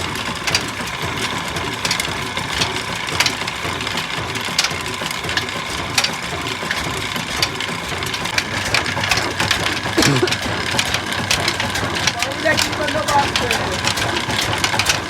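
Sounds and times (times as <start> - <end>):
diesel engine knocking and clattering: 0.0 - 15.0.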